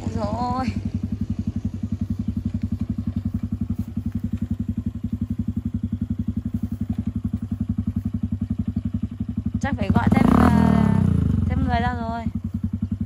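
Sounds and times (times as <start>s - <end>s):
small engine running at low revs: 0.0s - 13.0s.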